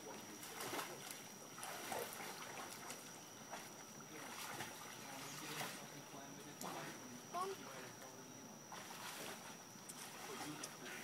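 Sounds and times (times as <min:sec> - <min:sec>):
swimmer splashing water: 0:00.0 - 0:11.0.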